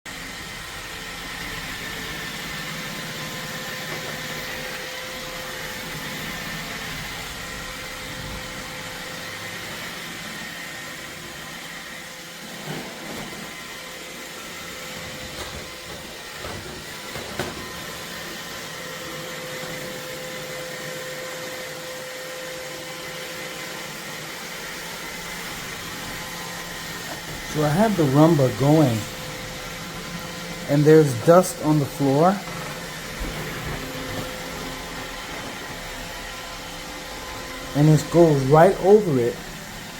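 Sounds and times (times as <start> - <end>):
robot vacuum running: 0.1 - 39.9.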